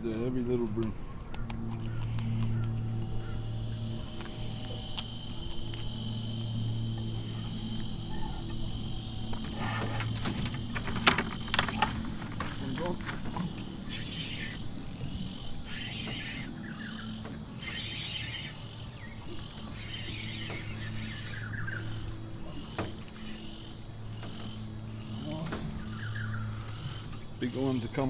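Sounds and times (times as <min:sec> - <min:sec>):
low hum: 0:00.0 - 0:27.5
insects calling: 0:00.0 - 0:28.0.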